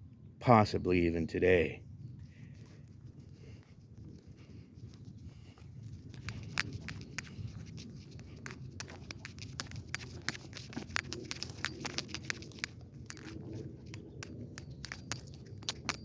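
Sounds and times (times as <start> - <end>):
steady low rumble: 2.4 - 16.0.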